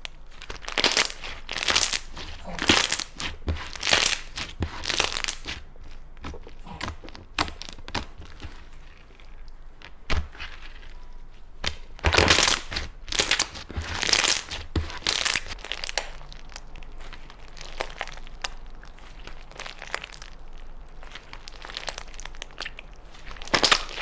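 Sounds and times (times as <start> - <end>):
slime crackling and squishing: 0.0 - 24.0.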